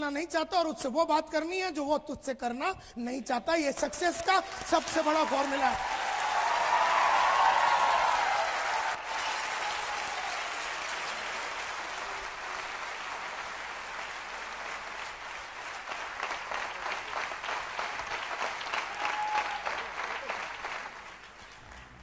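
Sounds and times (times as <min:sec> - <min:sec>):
audience applauding: 0:04.2 - 0:22.0.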